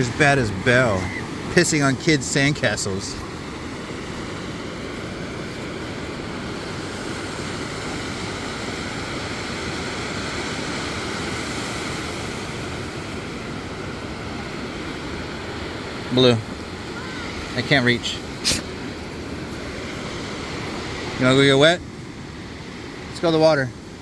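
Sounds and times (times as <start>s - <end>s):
ocean surf: 0.0s - 24.0s.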